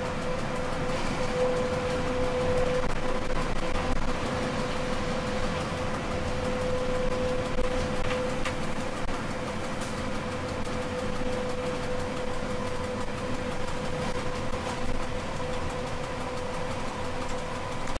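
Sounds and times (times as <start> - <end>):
constant electric whine: 0.0 - 18.0
train wheels rumbling: 0.0 - 18.0.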